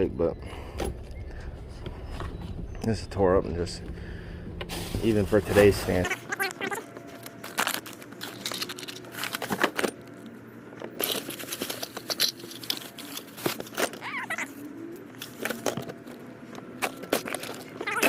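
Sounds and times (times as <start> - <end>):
clothes and bags rustling: 0.8 - 18.0.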